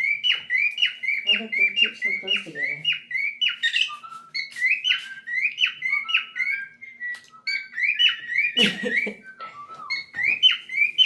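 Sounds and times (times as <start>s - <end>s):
cockatiel whistling: 0.0s - 11.0s.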